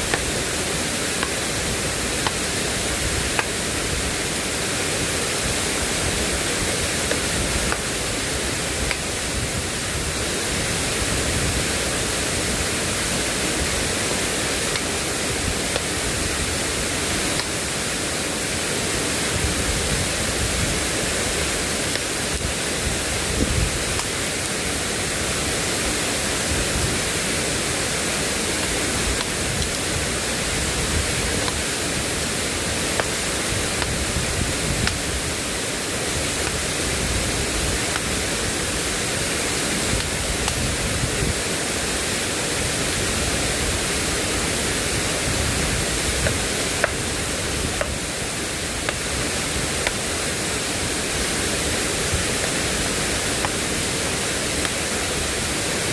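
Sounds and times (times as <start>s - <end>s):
flowing floodwater: 0.0s - 55.9s
heavy rain: 0.0s - 55.9s.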